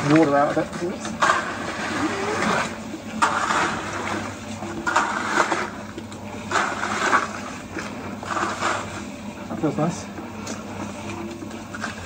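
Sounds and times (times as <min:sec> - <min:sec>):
rake scraping wet concrete: 0:00.0 - 0:10.0.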